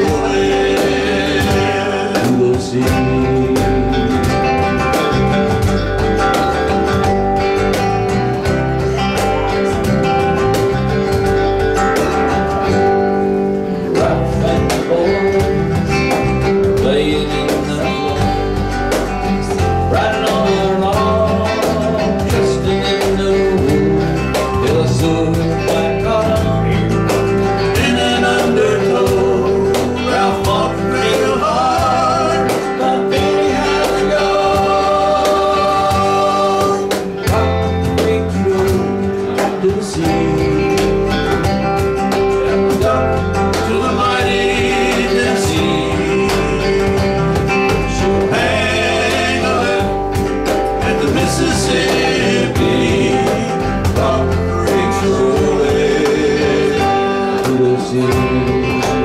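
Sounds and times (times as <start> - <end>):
acoustic guitar strumming: 0.0 - 59.0
cajon beat: 0.0 - 59.0
electric bass guitar: 0.0 - 59.0.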